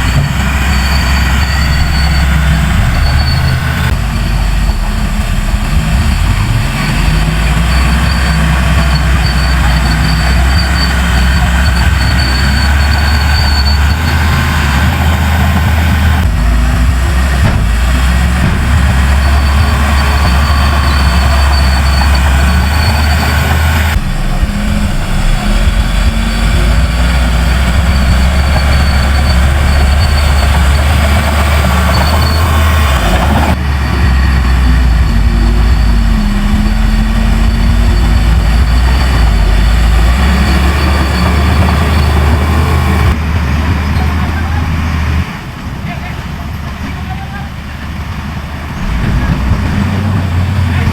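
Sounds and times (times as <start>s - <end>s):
diesel engine drone: 0.0s - 50.9s.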